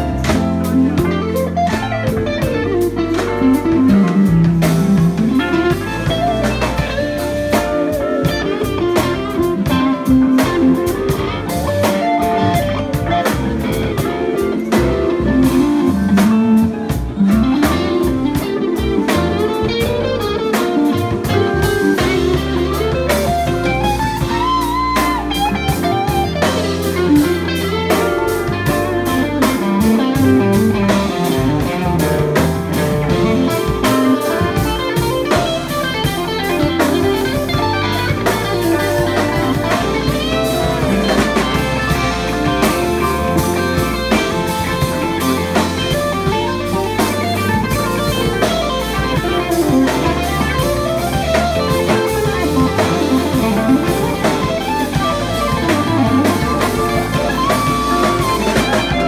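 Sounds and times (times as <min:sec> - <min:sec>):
drums: 0:00.0 - 0:59.0
electric guitar lead: 0:00.0 - 0:59.0
keyboard: 0:00.0 - 0:59.0.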